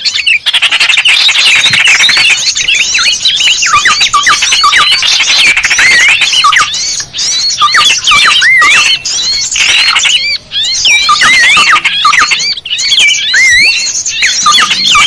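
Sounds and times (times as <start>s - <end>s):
many small birds chirping: 0.0s - 15.0s.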